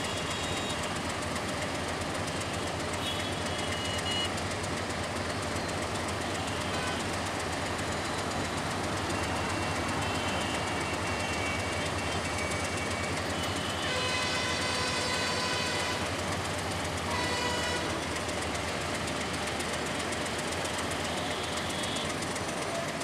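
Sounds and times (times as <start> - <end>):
faint high wheel squeals: 0.0 - 23.0
locomotive engine and wheels rumbling: 0.0 - 23.0.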